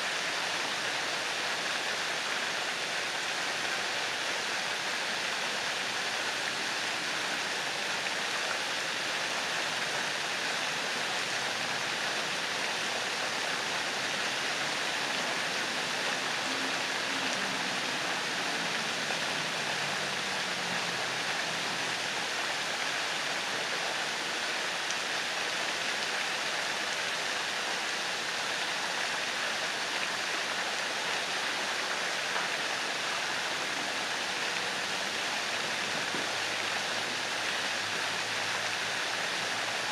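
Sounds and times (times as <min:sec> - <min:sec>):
fountain jets splashing into water: 0:00.0 - 0:39.9.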